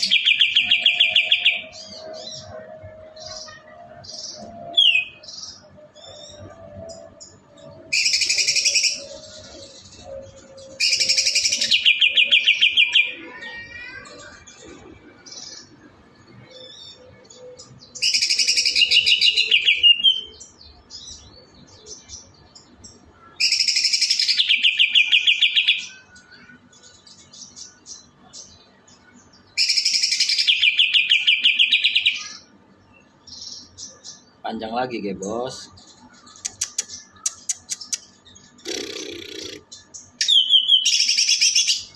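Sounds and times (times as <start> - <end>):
songbird trilling: 0.0 - 14.6, 16.4 - 22.4, 23.4 - 32.5, 33.3 - 41.9.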